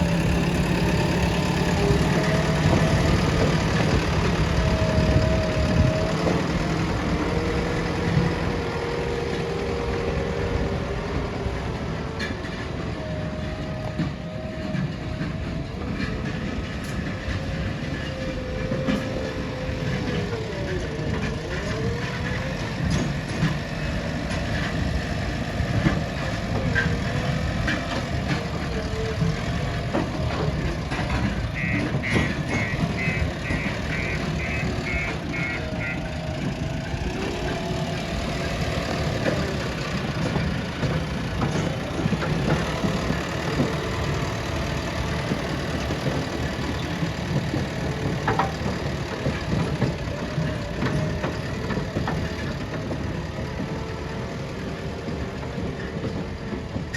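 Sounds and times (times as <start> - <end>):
backhoe diesel engine rumbling: 0.0 - 56.9.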